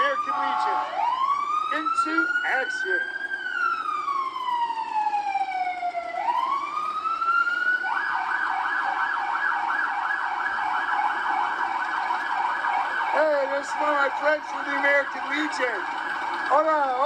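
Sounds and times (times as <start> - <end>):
vehicle siren wailing: 0.0 - 17.0.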